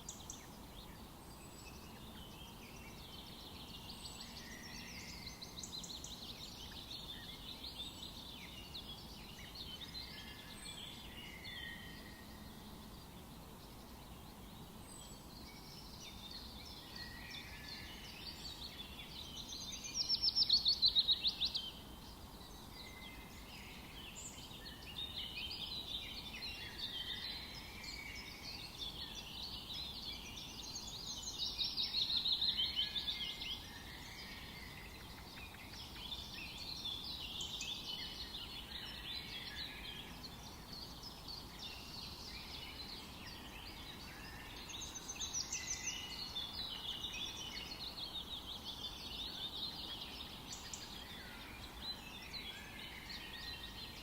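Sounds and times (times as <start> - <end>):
birds chirping and trilling: 0.0 - 54.0
faint steady hiss: 0.0 - 54.0.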